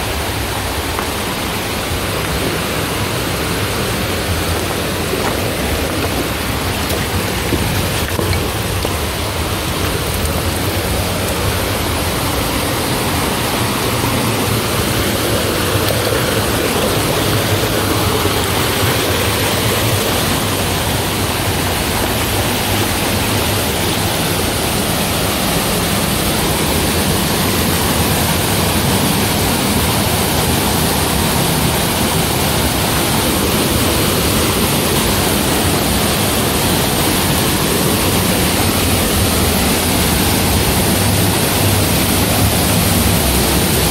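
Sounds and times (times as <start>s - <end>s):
creek rushing over rocks: 0.0s - 43.9s
waterfall plunging into pool: 0.0s - 43.9s.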